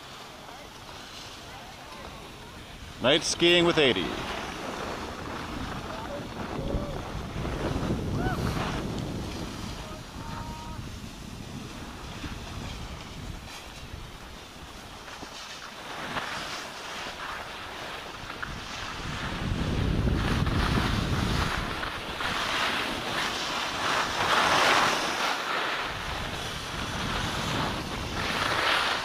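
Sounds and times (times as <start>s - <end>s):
skis scraping over packed snow: 0.0s - 29.0s
wind buffeting microphone: 2.0s - 15.1s, 18.0s - 25.1s, 25.7s - 29.0s.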